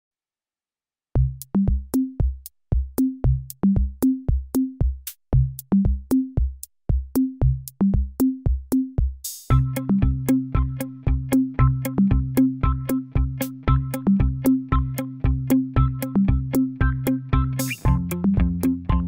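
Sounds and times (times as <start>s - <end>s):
drum machine beat: 1.2s - 19.0s.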